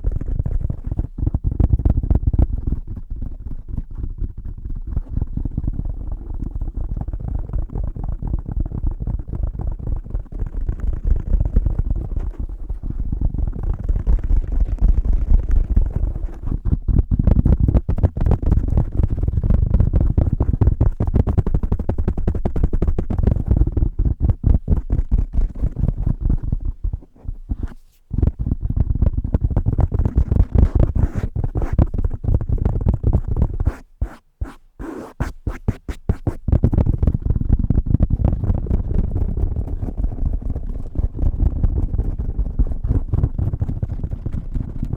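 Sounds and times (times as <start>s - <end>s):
fingers tapping on microphone cover: 0.0s - 44.9s.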